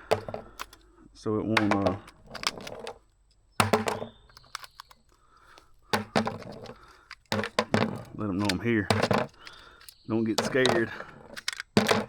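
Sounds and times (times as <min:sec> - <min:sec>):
plastic clicks and knocks: 0:00.0 - 0:00.9, 0:01.6 - 0:12.0.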